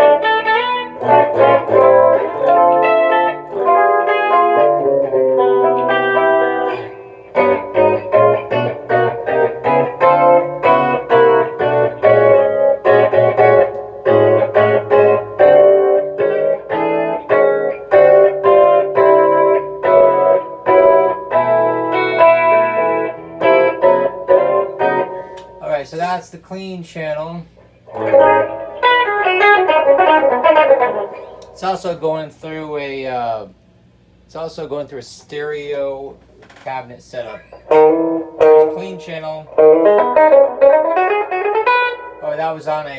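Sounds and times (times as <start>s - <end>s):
clean electric guitar: 0.0s - 25.7s, 27.2s - 32.1s, 37.2s - 42.9s.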